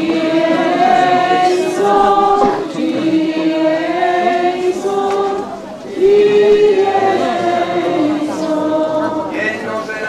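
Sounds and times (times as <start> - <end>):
group singing a hymn: 0.0 - 10.0.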